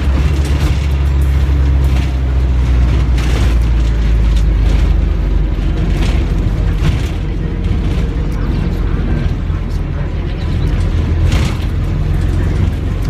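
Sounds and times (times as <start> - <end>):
bodywork rattles and knocks: 0.0 - 13.0
engine and road rumble: 0.0 - 13.0.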